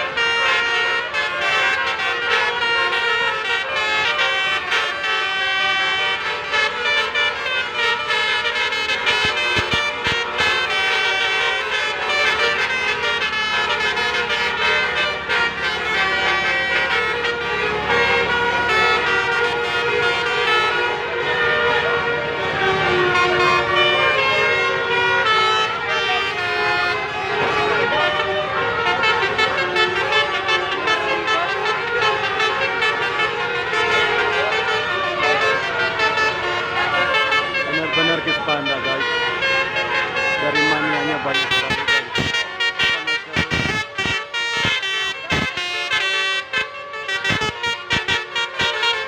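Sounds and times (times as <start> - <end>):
bus horn playing a tune: 0.0 - 49.0.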